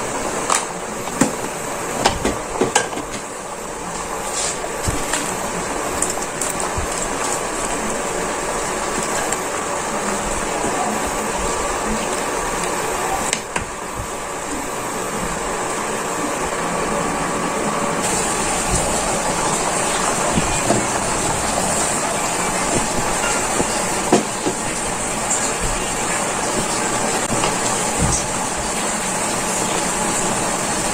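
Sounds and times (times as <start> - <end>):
pot boiling and bubbling: 0.0 - 30.9.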